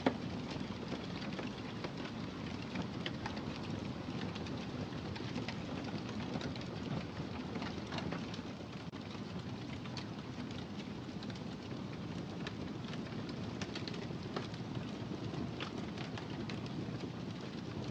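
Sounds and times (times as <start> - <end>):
wood fire crackling: 0.0 - 17.9.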